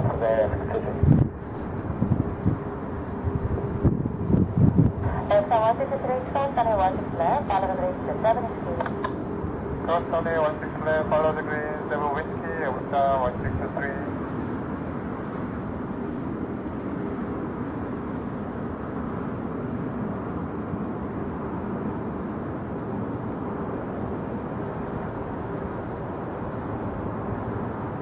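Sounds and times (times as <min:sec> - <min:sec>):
faint constant hum: 0:00.0 - 0:28.0
jet engine rushing: 0:00.0 - 0:28.0.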